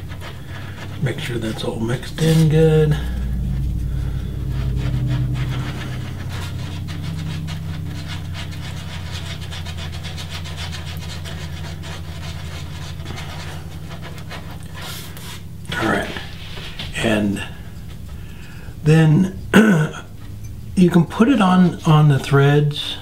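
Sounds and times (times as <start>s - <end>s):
steady low hum: 0.0s - 23.0s
stick scraping and stirring epoxy: 0.0s - 23.0s.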